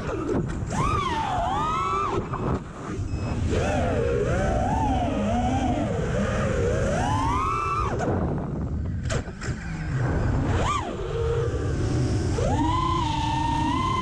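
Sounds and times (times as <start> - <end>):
drone motors whining: 0.0 - 14.0
wind rush: 0.0 - 14.0.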